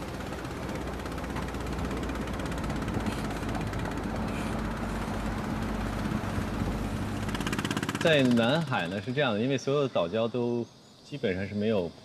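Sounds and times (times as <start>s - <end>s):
boat engine droning: 0.0s - 10.5s
steady low hum: 0.0s - 12.0s.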